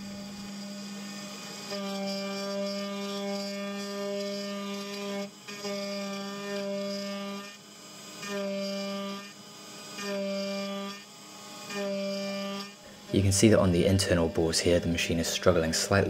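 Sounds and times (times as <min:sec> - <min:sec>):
milling machine cutting metal: 0:00.0 - 0:16.0.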